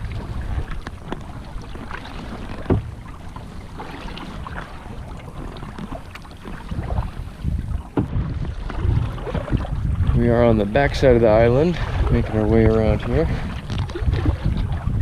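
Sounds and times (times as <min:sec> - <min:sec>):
kayak paddle splashing: 0:00.0 - 0:15.0
water sloshing against hull: 0:00.0 - 0:15.0
wind rumbling on microphone: 0:00.0 - 0:15.0.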